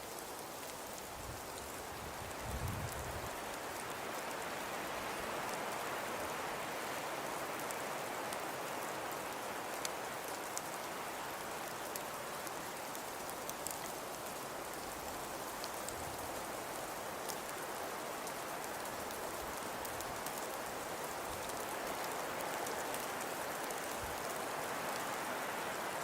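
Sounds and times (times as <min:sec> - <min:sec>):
steady snow hiss: 0:00.0 - 0:26.0.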